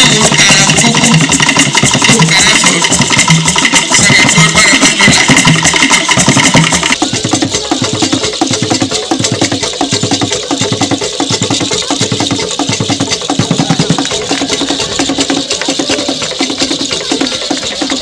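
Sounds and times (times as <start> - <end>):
fast percussion music: 0.0 - 18.0.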